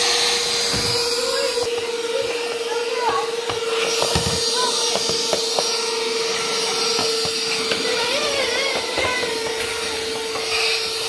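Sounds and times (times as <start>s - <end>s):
handheld vacuum cleaner running: 0.0s - 11.0s.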